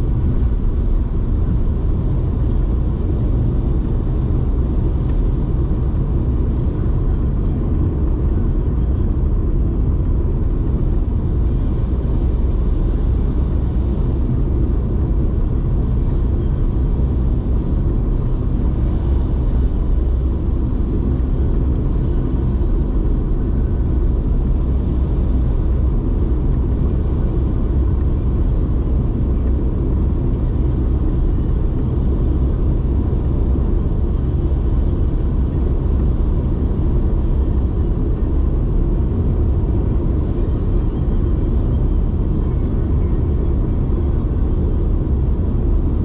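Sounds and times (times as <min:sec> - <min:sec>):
car interior road rumble: 0:00.0 - 0:46.0.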